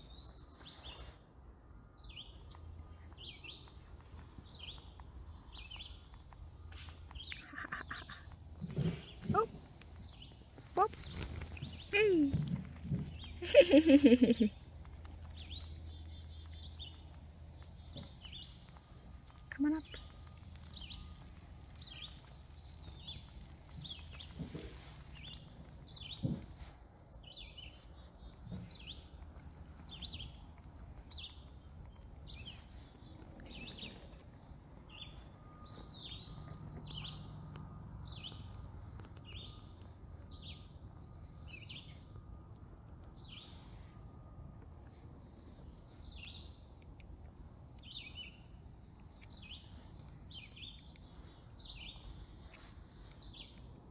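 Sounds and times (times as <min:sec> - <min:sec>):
bird chirping: 0:00.0 - 0:53.9
faint outdoor background noise: 0:00.0 - 0:53.9.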